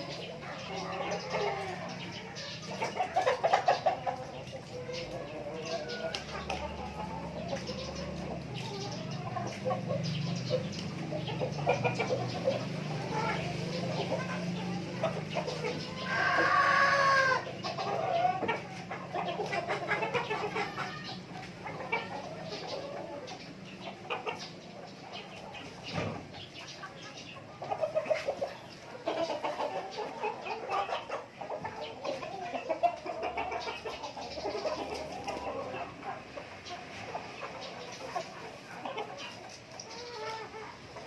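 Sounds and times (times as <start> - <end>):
chicken squawk: 0.0 - 24.6, 26.7 - 41.0
chickens clucking: 0.0 - 41.0.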